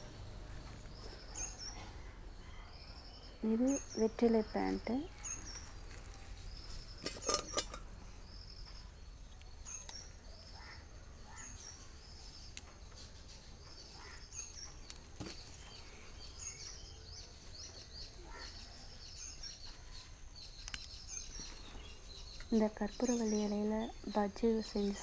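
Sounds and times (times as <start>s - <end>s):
small bird chirping: 0.0s - 25.0s.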